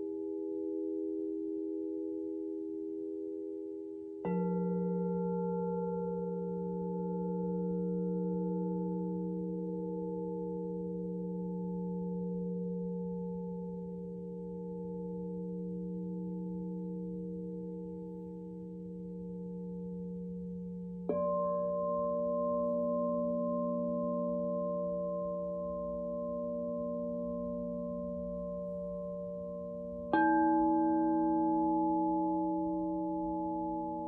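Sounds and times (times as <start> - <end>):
singing bowl ringing: 0.0 - 34.0.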